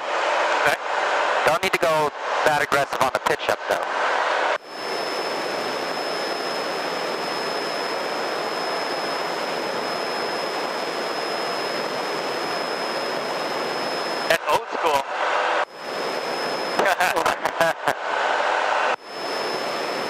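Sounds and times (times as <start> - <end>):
propeller airplane engine in cabin: 0.0 - 20.0
thin high whine: 0.0 - 20.0.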